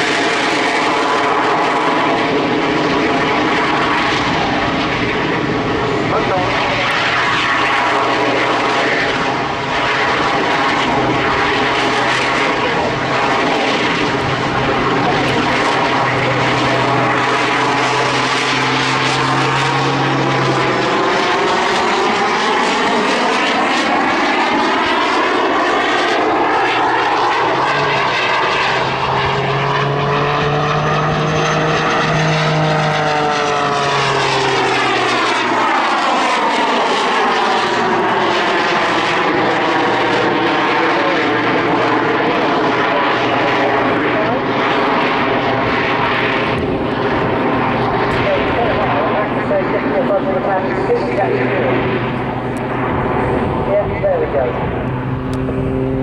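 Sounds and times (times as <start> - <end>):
aerobatic plane engine drone: 0.0 - 56.0.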